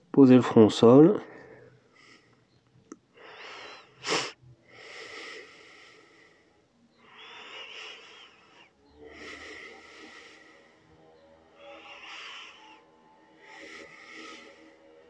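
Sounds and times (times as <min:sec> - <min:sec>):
person breathing slowly: 0:01.2 - 0:15.0.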